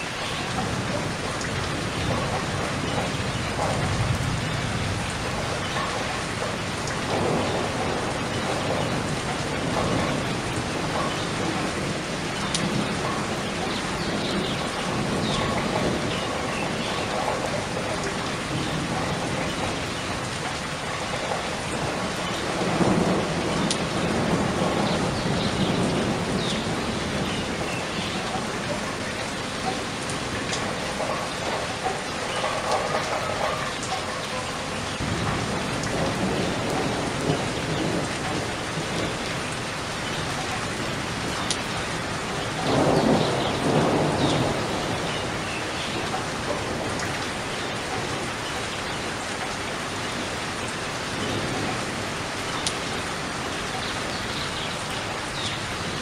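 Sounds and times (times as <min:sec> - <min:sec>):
steady rain: 0:00.0 - 0:56.0
low rumbles of thunder: 0:00.2 - 0:49.3.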